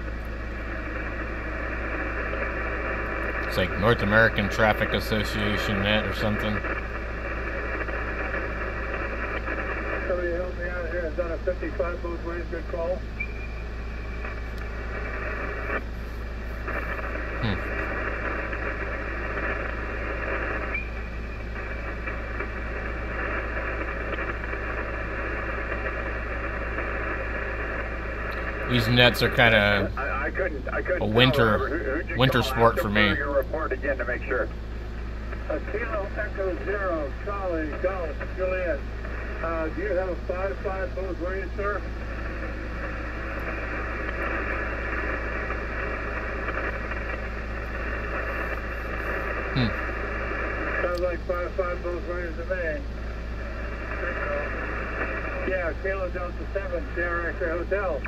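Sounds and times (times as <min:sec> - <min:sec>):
low hum: 0:00.0 - 0:58.0
radio static hiss: 0:00.0 - 0:58.0.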